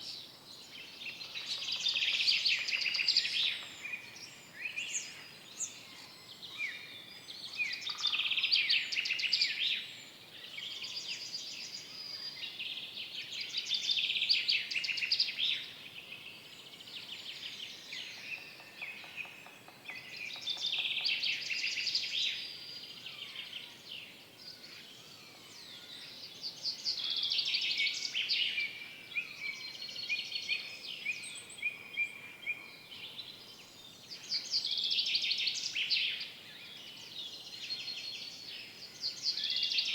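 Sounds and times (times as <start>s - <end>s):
faint forest air hiss: 0.0s - 39.9s
songbirds chirping and trilling: 0.0s - 39.9s.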